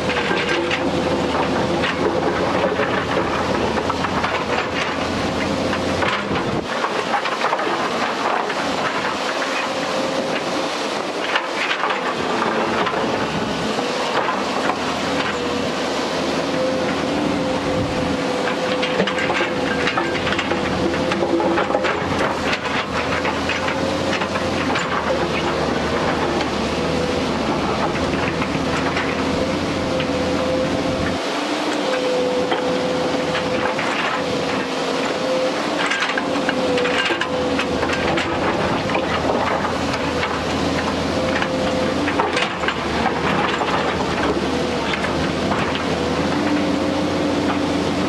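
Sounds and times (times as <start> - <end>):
excavator engine and hydraulics whine: 0.0 - 48.0.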